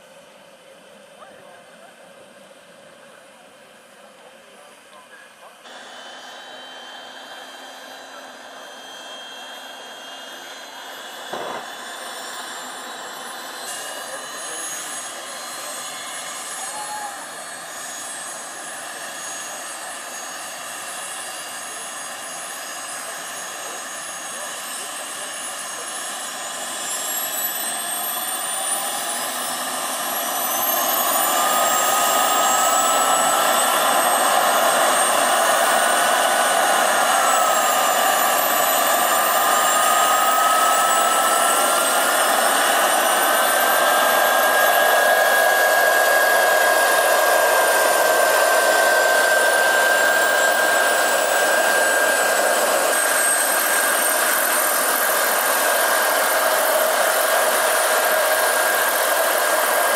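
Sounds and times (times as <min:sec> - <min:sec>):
model helicopter turbine whine: 0:00.0 - 0:59.9
rotors rushing: 0:05.7 - 0:59.9.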